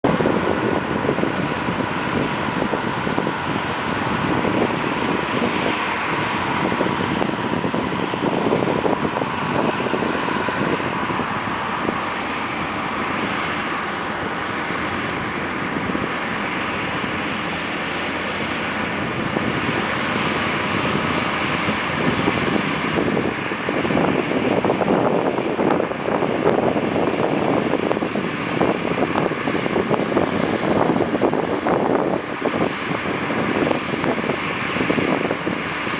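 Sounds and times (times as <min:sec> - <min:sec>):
diesel machinery running: 0:00.0 - 0:35.9.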